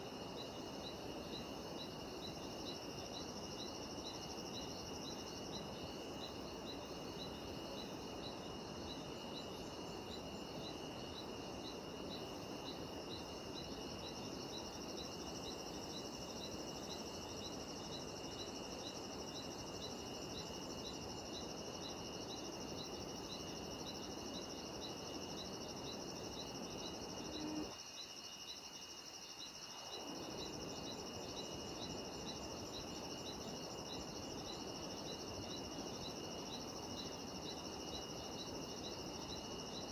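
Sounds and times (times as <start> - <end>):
cicadas and insects droning: 0.0 - 39.9
insect chirping in pulses: 0.0 - 39.9.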